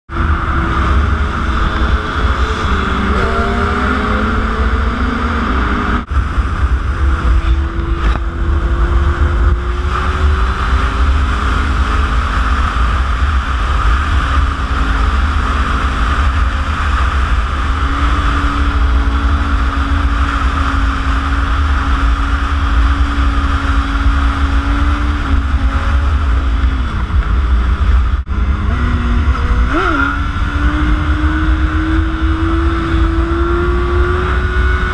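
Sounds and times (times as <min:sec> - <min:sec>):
motorcycle engine accelerating: 0:00.1 - 0:34.9
wind rumble on microphone: 0:00.1 - 0:34.9.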